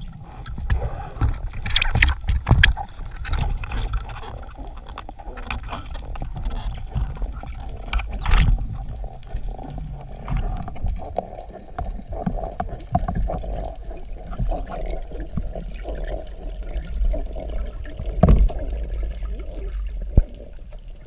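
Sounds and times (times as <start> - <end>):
low rumble of moving water: 0.0 - 21.0
underwater clicks and crackles: 0.0 - 21.0.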